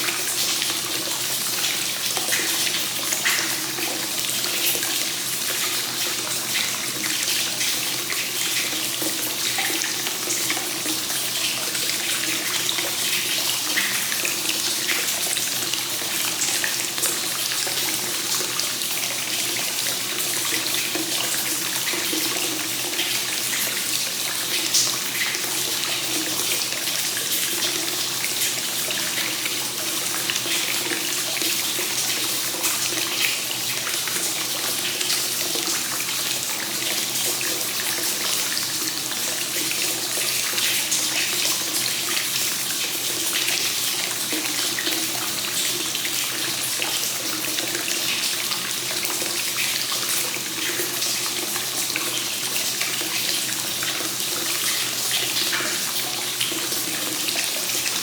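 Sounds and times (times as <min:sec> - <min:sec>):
water pouring into a bath: 0:00.0 - 0:58.0.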